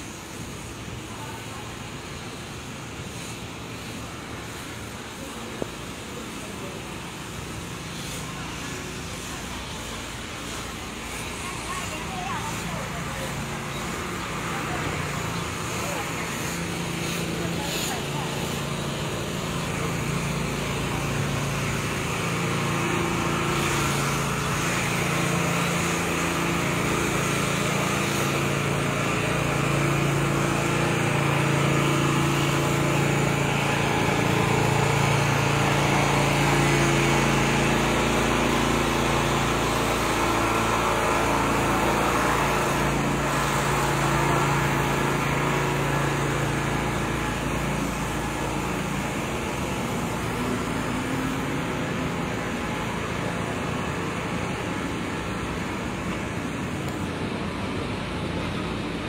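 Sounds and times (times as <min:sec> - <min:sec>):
street traffic noise: 0:00.0 - 0:59.0
vehicle engine humming: 0:00.0 - 0:59.0.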